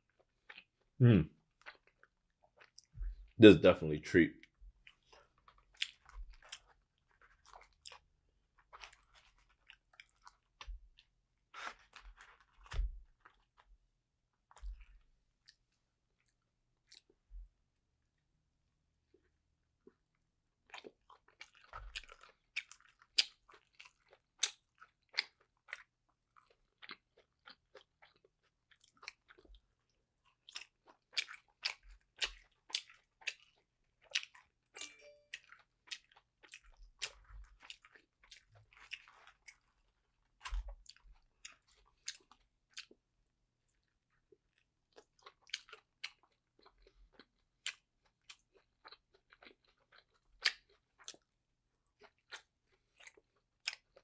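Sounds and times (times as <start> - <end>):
person chewing with clicking mouth noises: 0.0 - 3.4, 4.4 - 13.7, 14.4 - 17.3, 19.1 - 54.0.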